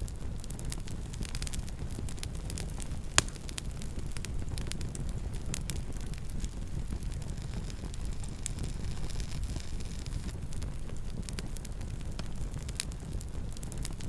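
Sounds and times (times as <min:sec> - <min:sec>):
campfire rumble: 0:00.0 - 0:14.0
fire crackling and popping: 0:00.0 - 0:14.0.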